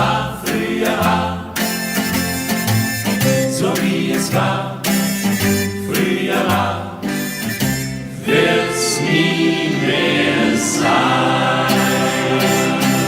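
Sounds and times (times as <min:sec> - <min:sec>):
vocal group singing in harmony: 0:00.0 - 0:02.0, 0:03.2 - 0:13.0
steady musical accompaniment: 0:00.0 - 0:13.0.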